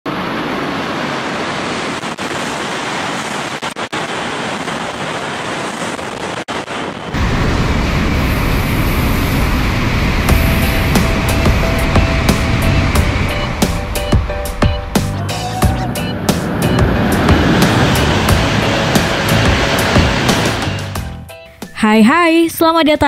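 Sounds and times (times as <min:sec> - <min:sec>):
high-speed train passing: 0:00.1 - 0:21.3.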